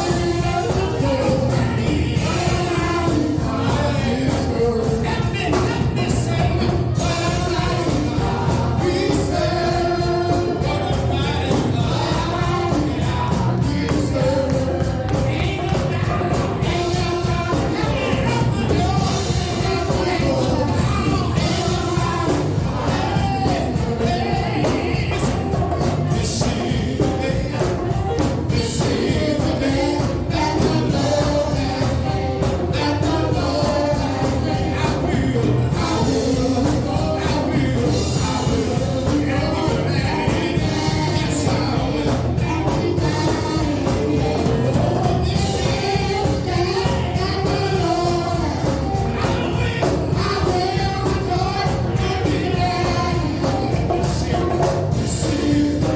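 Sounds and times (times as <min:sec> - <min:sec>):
gospel worship music: 0:00.0 - 0:55.9.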